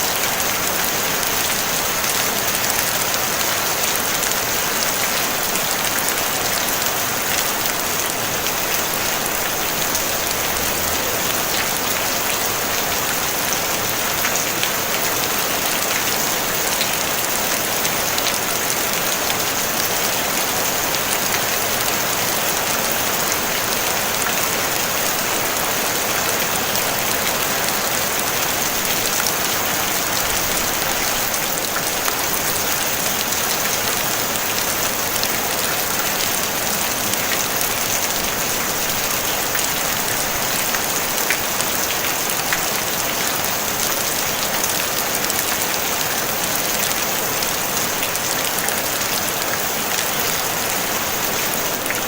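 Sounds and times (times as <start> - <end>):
rain on a tin roof: 0.0 - 52.0.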